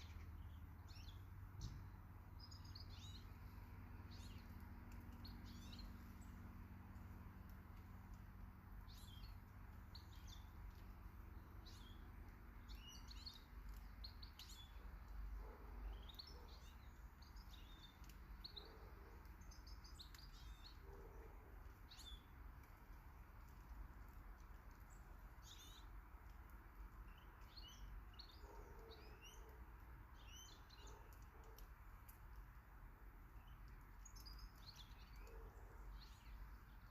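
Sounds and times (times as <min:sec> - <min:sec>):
low background rumble: 0:00.0 - 0:36.9
small birds chirping: 0:00.0 - 0:36.9.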